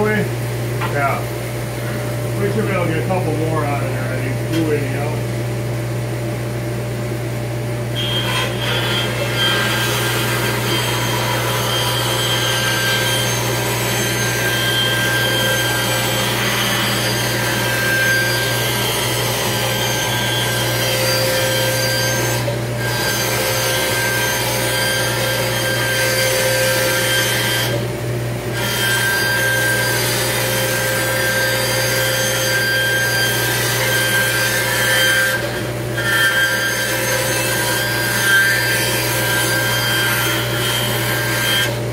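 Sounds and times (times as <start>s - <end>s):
dust collector humming: 0.0s - 41.9s
band saw cutting wood: 1.9s - 5.2s, 7.9s - 27.9s, 28.5s - 41.9s.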